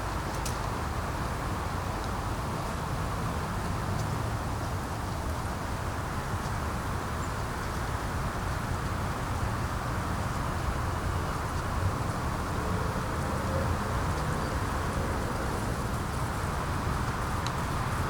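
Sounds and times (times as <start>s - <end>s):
wind noise with low rumble: 0.0s - 18.0s.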